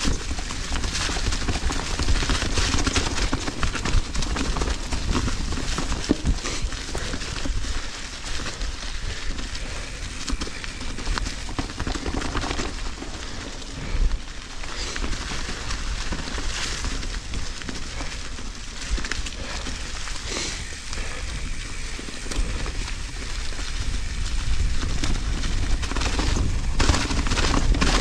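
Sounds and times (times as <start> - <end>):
bike rattling over bumps: 0.0 - 28.0
bike tyres crunching through leaves: 0.0 - 28.0
wind rumble on microphone: 0.0 - 28.0.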